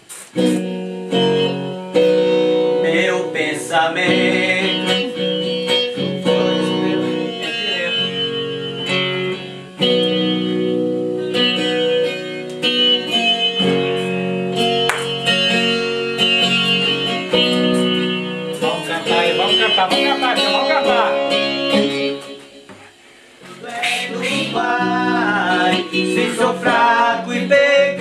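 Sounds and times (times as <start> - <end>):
acoustic guitar playing: 0.0 - 28.0.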